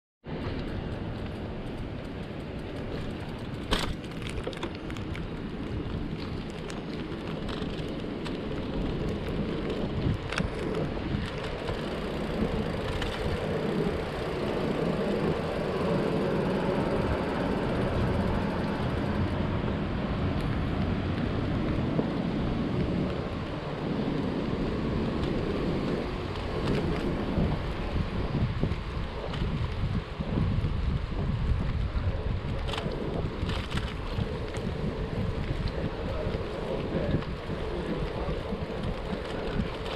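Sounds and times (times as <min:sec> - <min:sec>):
bicycle road rumble: 0:00.2 - 0:39.9
wind noise on microphone: 0:00.2 - 0:39.9.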